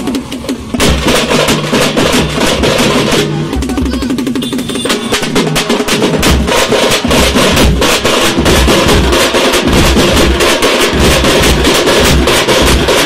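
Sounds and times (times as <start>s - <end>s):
bass drums beating: 0.0s - 13.0s
fast snare drum rhythm: 0.0s - 13.0s.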